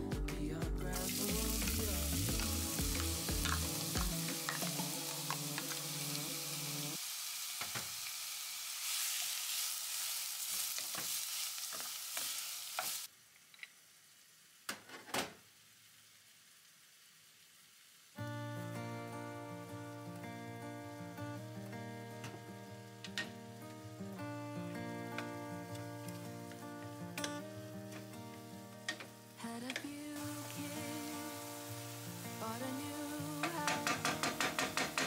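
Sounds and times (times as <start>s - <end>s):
onion sizzling in hot oil: 0.9s - 35.0s.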